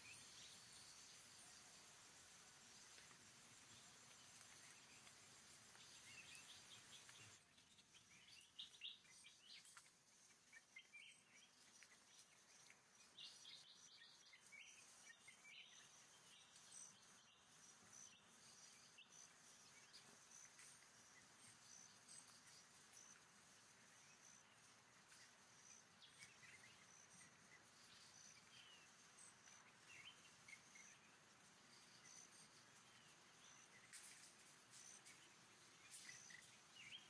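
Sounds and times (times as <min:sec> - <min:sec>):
bird chirps: 0:05.7 - 0:37.0.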